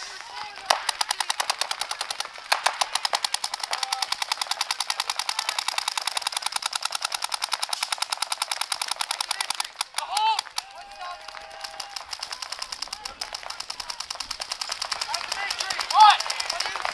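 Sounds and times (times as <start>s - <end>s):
paintball markers firing: 0.0s - 16.9s.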